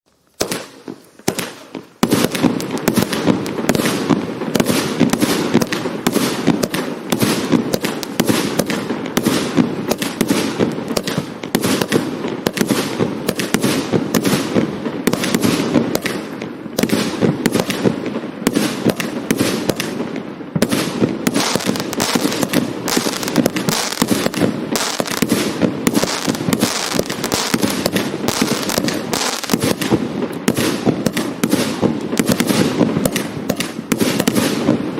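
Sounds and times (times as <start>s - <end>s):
firework barrage of shots: 0.4s - 34.9s.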